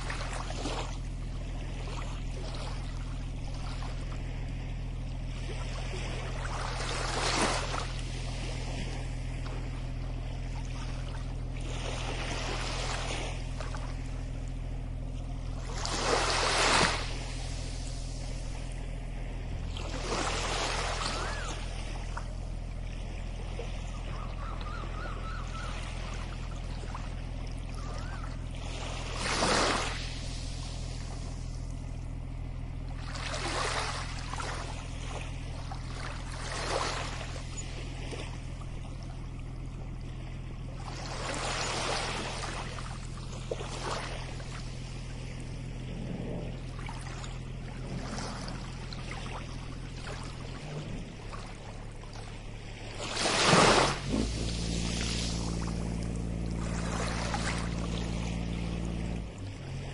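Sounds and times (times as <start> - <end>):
small waves washing onto shore: 0.0 - 59.9
steady low hum: 0.0 - 59.9.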